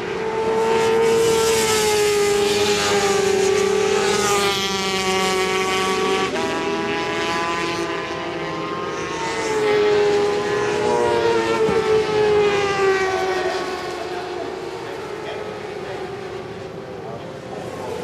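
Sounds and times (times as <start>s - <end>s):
motorcycle engines at high revs: 0.0s - 18.0s.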